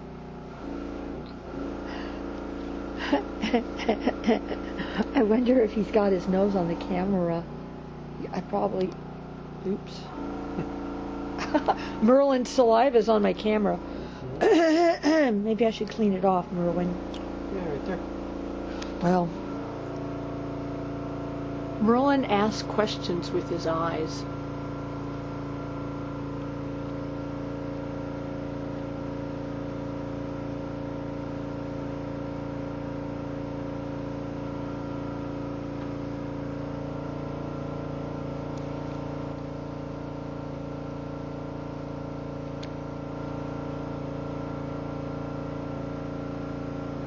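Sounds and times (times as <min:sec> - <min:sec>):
generator engine droning: 0:00.0 - 0:47.0.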